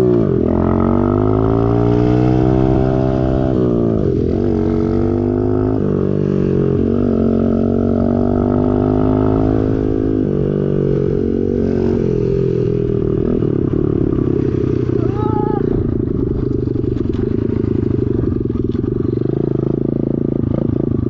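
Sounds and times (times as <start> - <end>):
small motorcycle engine revving: 0.0 - 21.0.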